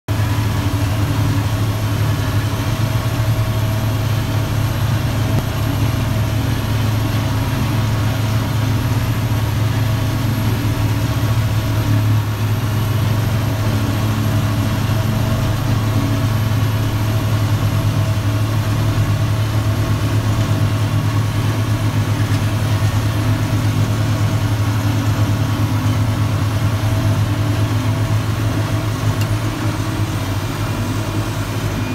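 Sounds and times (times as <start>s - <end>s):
forage harvester engine drone: 0.1s - 31.9s.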